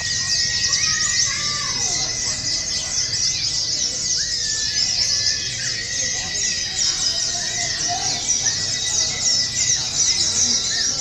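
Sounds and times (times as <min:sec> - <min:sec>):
birds chirping and trilling: 0:00.0 - 0:11.0.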